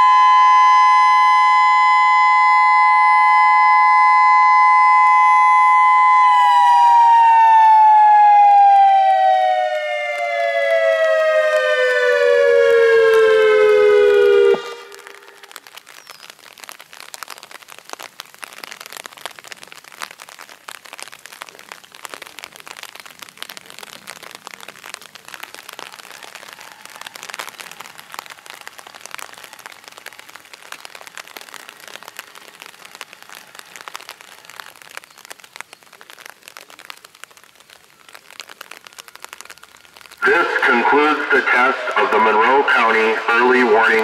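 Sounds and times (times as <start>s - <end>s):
rain on an umbrella: 0.0s - 44.0s.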